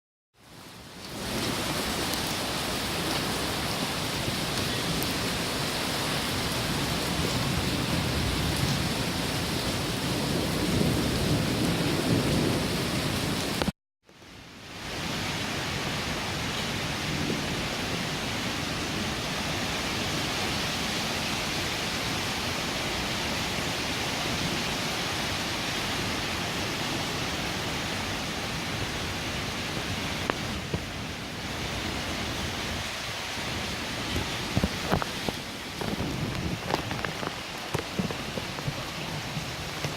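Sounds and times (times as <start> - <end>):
heavy rain falling: 0.4 - 39.9.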